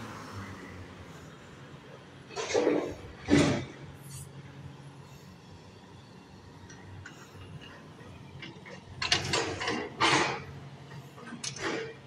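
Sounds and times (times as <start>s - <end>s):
diesel engines humming: 0.0s - 12.0s.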